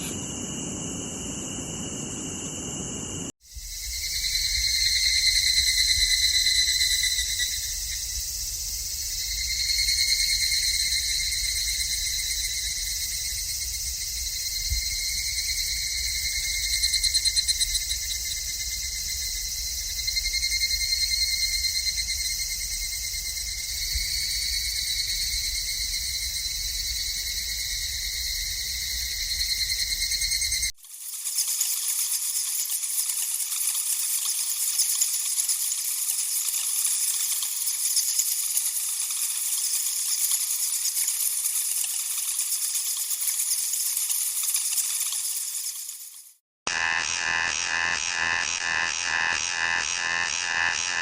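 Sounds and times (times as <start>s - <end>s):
cicadas buzzing: 0.0s - 51.0s.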